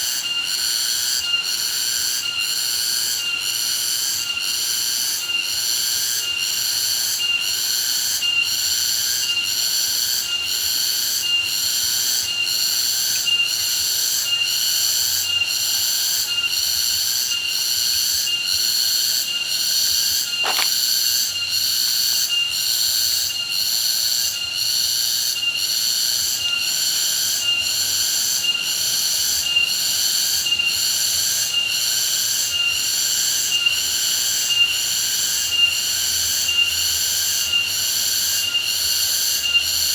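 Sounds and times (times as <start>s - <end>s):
shrill insect chorus pulsing: 0.1s - 39.9s.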